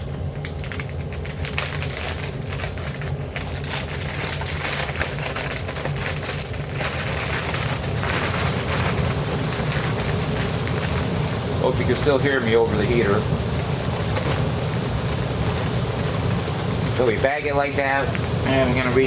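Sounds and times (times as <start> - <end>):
plastic bag crackling and rustling: 0.0 - 18.4
heater humming: 0.0 - 19.0.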